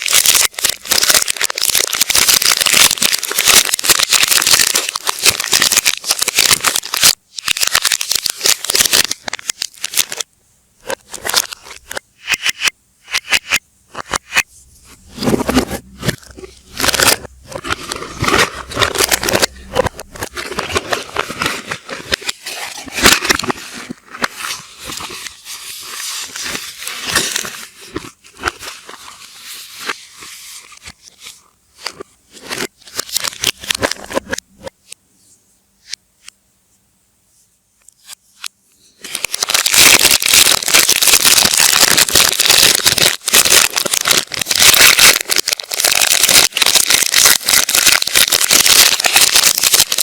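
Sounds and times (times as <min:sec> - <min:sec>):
reversed packaging rustling: 0:00.0 - 0:35.0, 0:38.9 - 0:50.0.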